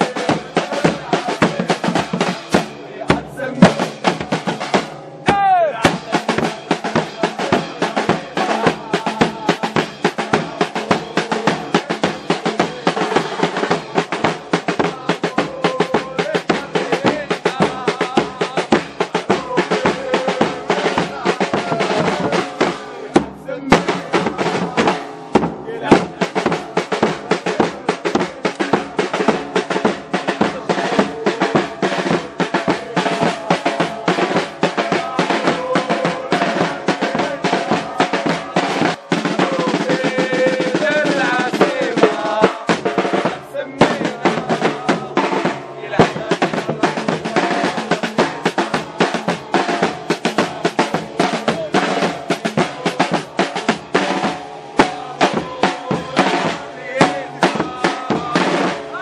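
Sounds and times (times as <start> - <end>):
bass drum: 0.0 - 59.0
marching snare drums: 0.0 - 59.0.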